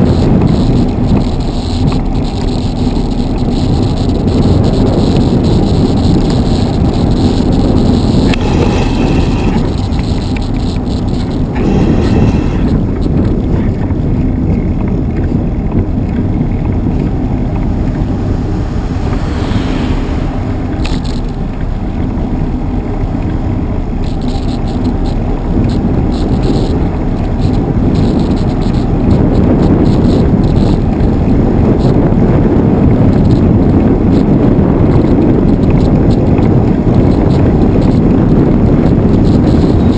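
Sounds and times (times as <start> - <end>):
road and traffic rumble: 0.0 - 39.9
wind buffeting microphone: 0.0 - 39.9.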